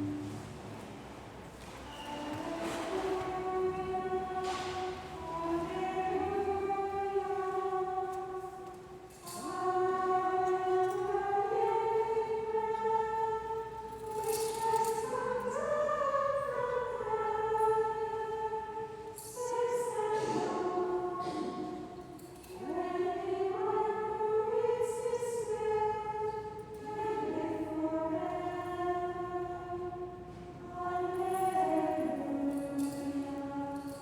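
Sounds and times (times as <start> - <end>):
choir singing a chant in unison: 2.0 - 8.7, 9.3 - 21.9, 22.6 - 34.0.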